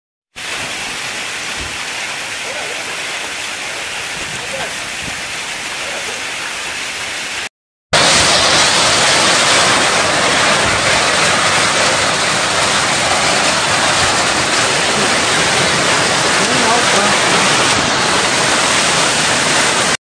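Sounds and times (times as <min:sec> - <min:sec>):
heavy hail falling: 0:00.4 - 0:07.3, 0:08.0 - 0:20.0.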